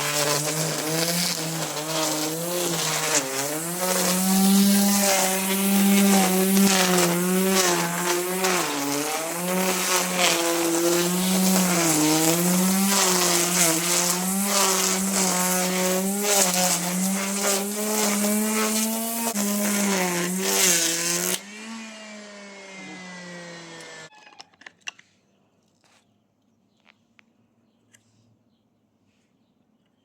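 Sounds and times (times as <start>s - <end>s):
electric lawn mower cutting grass: 0.0s - 24.1s.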